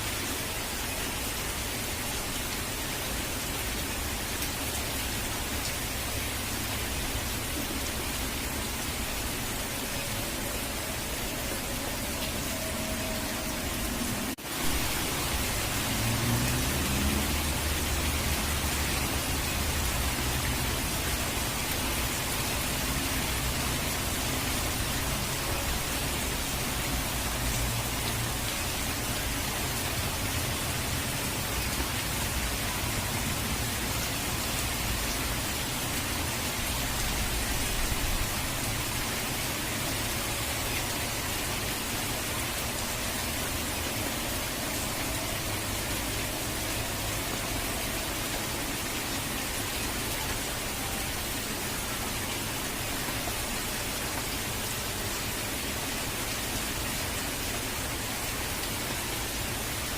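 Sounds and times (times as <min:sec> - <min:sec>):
falling water hiss: 0:00.0 - 0:59.9.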